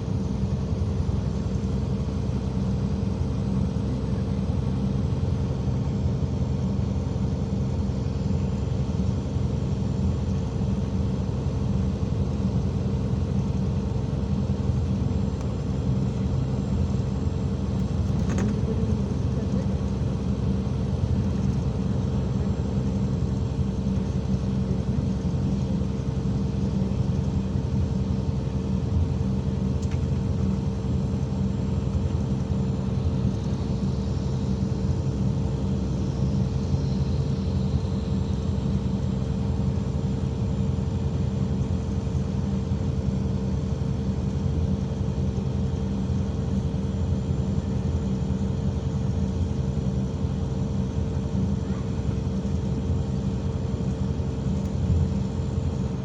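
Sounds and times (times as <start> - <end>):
bus engine drone: 0.0 - 56.0
constant whine: 0.0 - 56.0.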